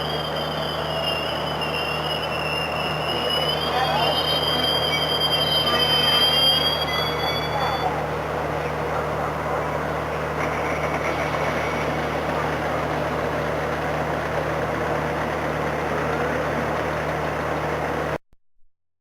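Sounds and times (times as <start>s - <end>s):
train engine idling: 0.0s - 18.2s.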